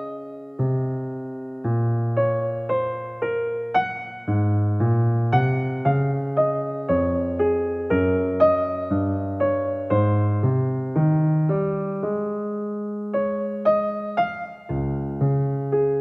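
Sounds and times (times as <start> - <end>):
electric piano melody: 0.0 - 16.0.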